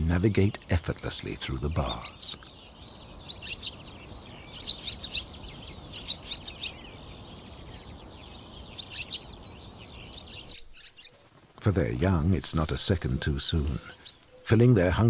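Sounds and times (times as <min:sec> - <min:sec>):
low background hiss: 0:00.0 - 0:15.0
swallows twittering: 0:00.0 - 0:15.0.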